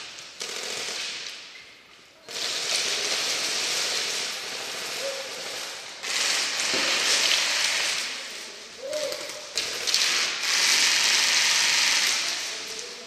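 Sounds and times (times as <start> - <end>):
airsoft guns firing rapidly: 0.0 - 1.2, 2.3 - 8.2, 9.5 - 12.9.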